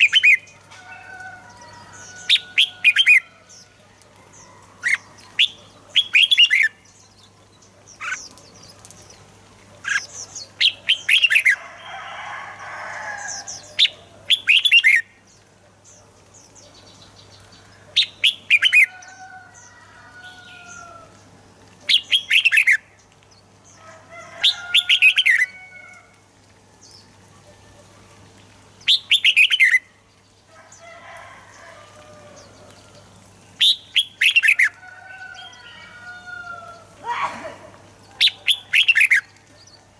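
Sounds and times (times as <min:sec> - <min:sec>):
bulbuls singing: 0:00.0 - 0:25.6, 0:26.8 - 0:39.9.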